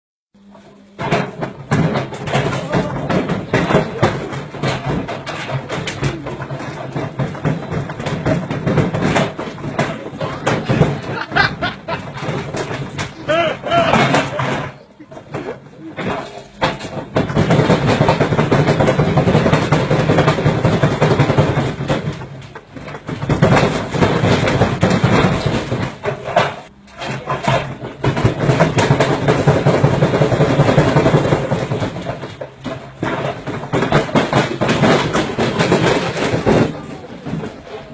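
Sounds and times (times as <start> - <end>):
washing machine rattling: 1.0 - 15.4, 16.0 - 37.9.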